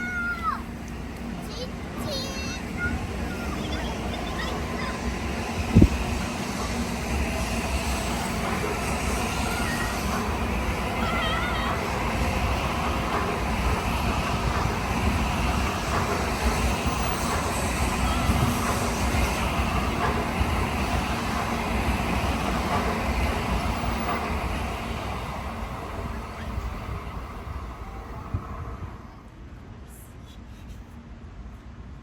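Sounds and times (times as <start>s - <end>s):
train wheel and rail rumble: 0.0s - 32.0s.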